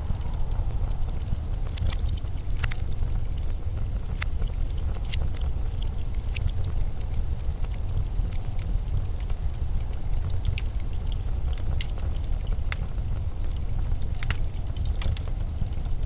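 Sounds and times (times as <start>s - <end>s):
blizzard wind rumble: 0.0s - 16.0s
sharp crackles and ticks: 0.0s - 16.0s.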